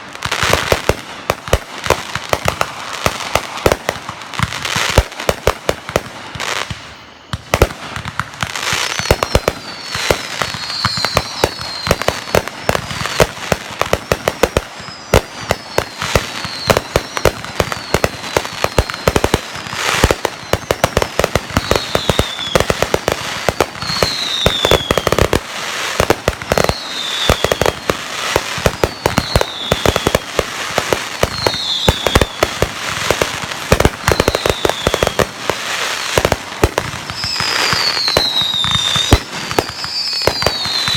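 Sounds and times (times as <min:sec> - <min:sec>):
fireworks cracking and popping: 0:00.0 - 0:40.9
fireworks falling whistles: 0:00.0 - 0:40.9.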